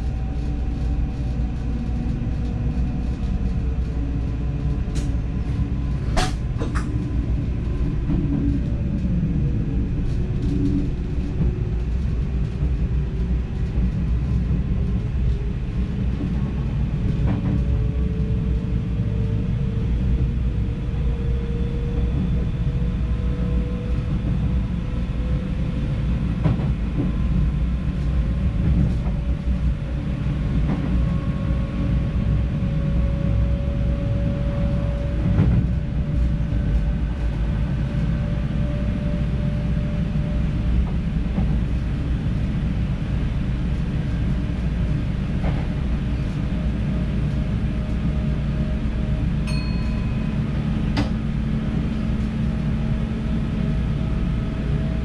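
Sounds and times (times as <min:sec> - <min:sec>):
train rumbling with rising whine: 0:00.0 - 0:55.0.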